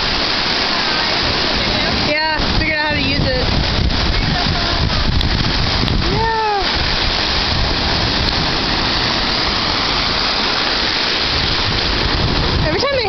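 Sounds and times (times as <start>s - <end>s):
ocean surf washing: 0.0s - 13.0s.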